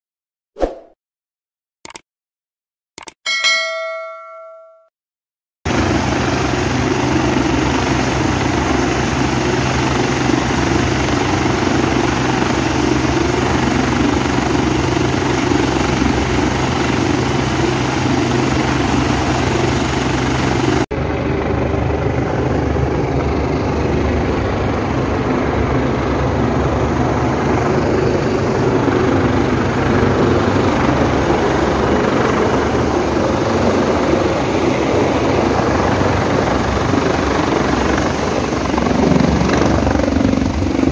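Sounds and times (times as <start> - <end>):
helicopter turbines and rotor: 5.7 - 40.9.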